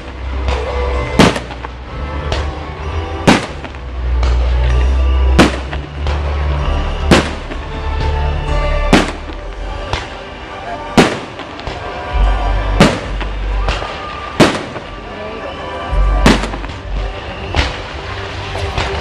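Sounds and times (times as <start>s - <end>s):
fireworks bursting with bangs: 0.0s - 19.0s
music: 0.0s - 19.0s.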